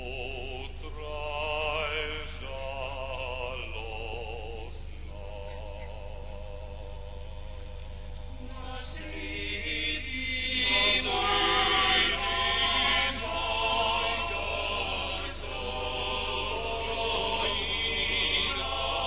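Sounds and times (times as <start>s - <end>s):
choir chanting: 0.0s - 19.0s.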